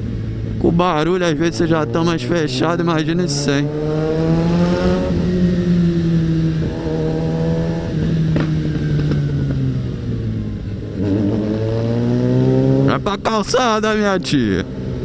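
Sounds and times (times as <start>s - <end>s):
motorcycle engine through loud exhaust: 0.0s - 13.3s.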